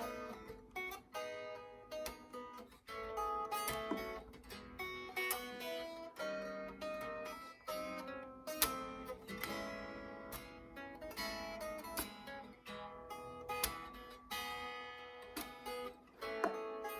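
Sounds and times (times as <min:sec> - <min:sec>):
fingerstyle acoustic guitar: 0:00.0 - 0:16.9.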